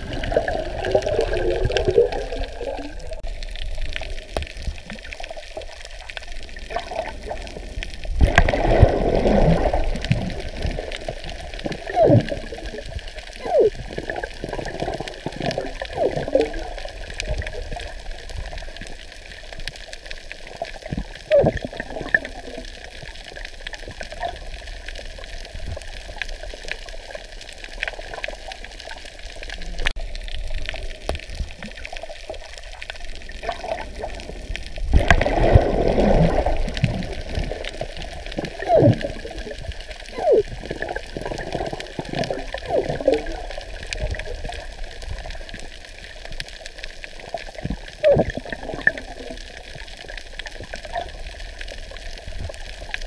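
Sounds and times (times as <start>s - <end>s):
muffled underwater water movement: 0.0s - 53.0s
water bubbling and gurgling: 0.0s - 53.0s.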